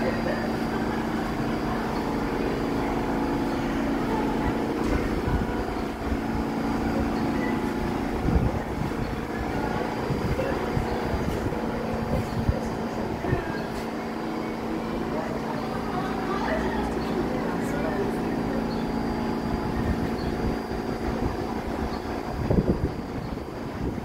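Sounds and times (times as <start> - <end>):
idling subway train hum: 0.0 - 24.0.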